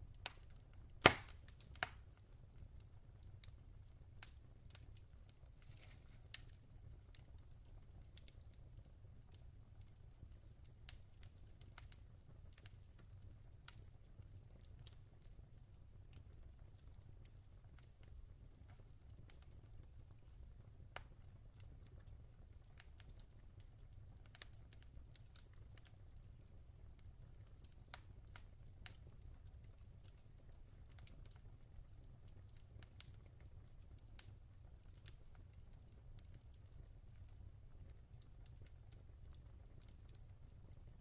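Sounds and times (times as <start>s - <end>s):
log fire crackling: 0.0s - 41.0s.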